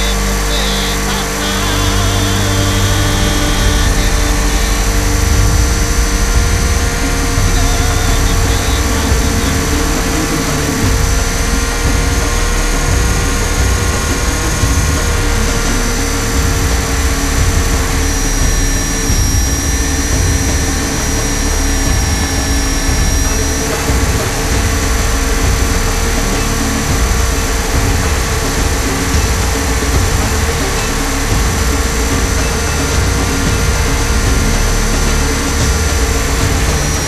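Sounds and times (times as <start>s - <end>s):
rotor and wind rumble: 0.0s - 37.0s.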